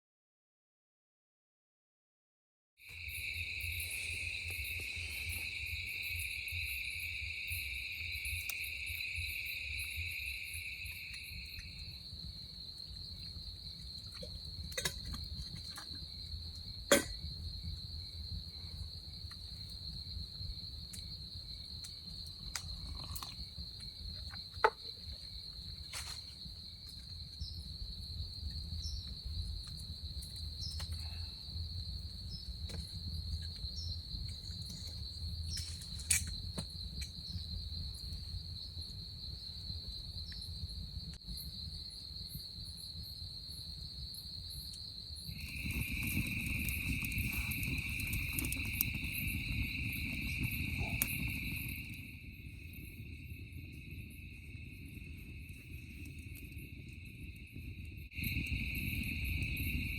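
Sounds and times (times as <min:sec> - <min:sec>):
crickets chirring: 0:02.8 - 0:59.9
lower-pitched insect chorus: 0:02.8 - 0:59.9.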